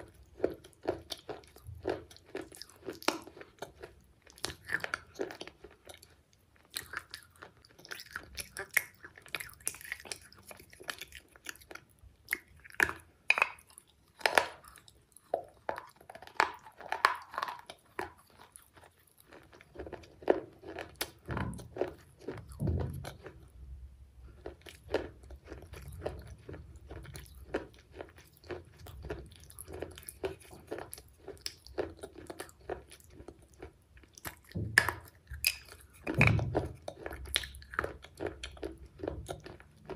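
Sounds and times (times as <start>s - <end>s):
chewing: 0.0s - 23.6s, 24.2s - 39.9s.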